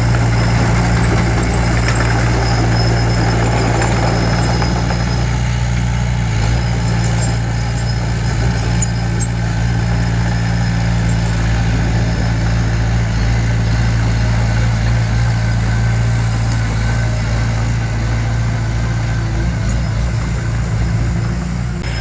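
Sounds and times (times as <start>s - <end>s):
diesel machinery engine droning: 0.0s - 22.0s.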